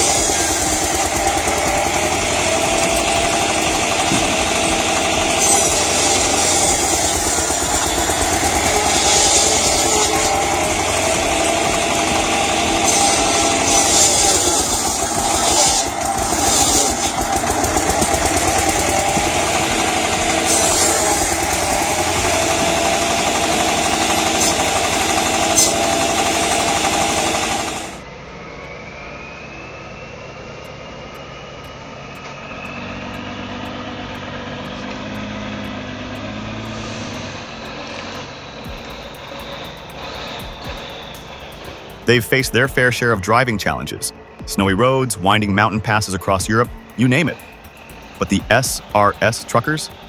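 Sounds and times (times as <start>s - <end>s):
circular saw blade running: 0.0s - 28.1s, 29.9s - 50.0s
vehicle engine with faint whine: 0.0s - 50.0s.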